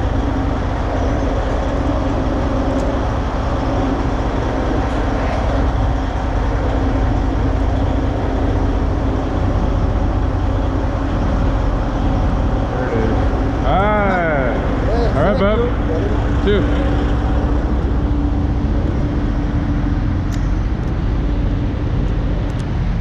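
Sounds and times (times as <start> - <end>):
diesel truck engine idling: 0.0 - 22.6.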